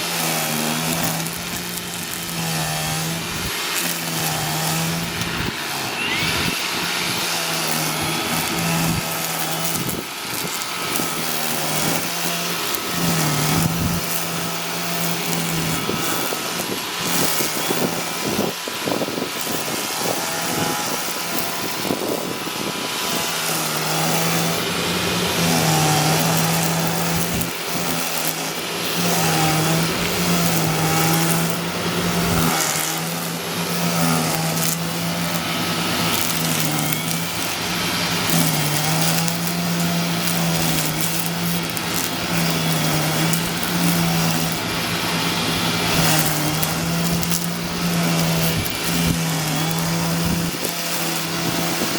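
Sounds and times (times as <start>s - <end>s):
string trimmer cutting grass: 0.0s - 51.9s.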